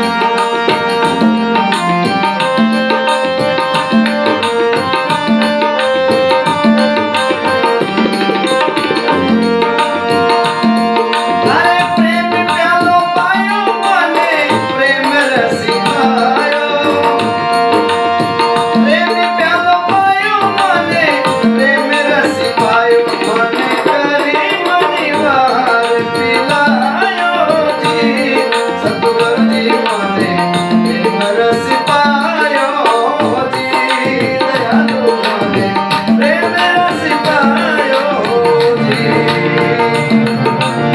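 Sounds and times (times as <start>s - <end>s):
hand drum rhythm: 0.0s - 40.9s
ornamented melody line: 0.0s - 40.9s.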